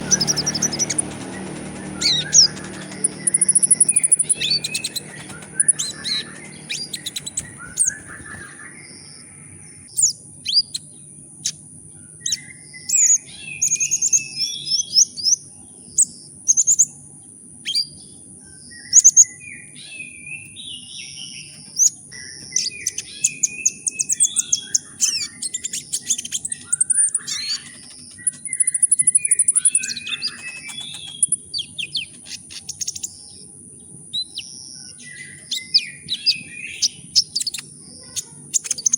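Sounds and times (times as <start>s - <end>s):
bird chirping and trilling: 0.0s - 16.9s, 17.7s - 38.9s.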